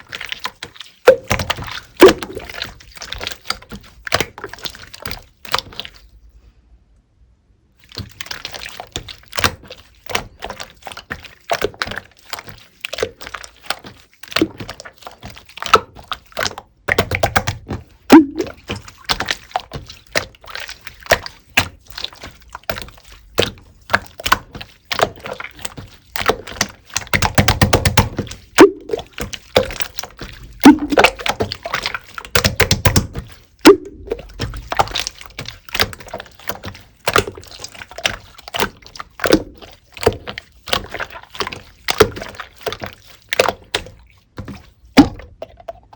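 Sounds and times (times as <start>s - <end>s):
slime slapping thuds: 0.0s - 6.0s, 7.9s - 45.4s
slime squishing with wet clicks: 0.0s - 6.4s, 7.8s - 45.9s.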